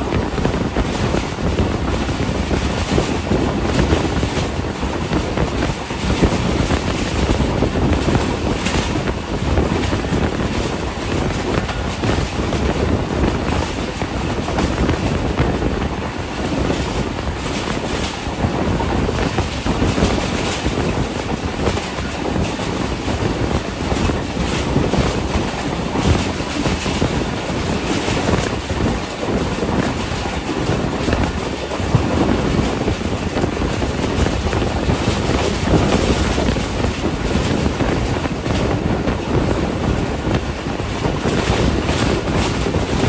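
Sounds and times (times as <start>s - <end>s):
train wheels clattering on rails: 0.0s - 43.0s
wind rushing across microphone: 0.0s - 43.0s.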